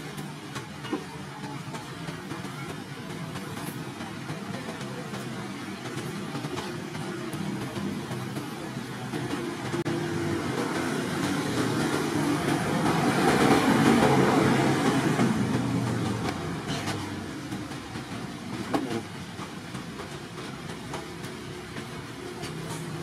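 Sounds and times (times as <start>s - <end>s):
loud rushing noise: 1.9s - 23.0s.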